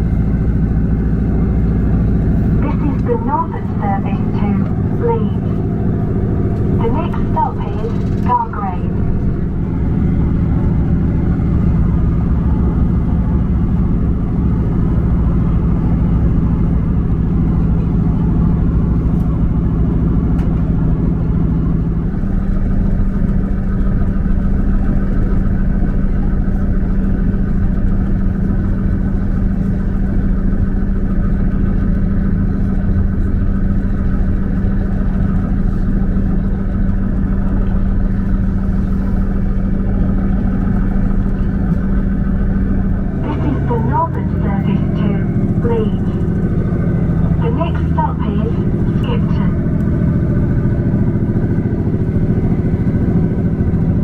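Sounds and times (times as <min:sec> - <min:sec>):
train diesel engine drone: 0:00.0 - 0:54.0.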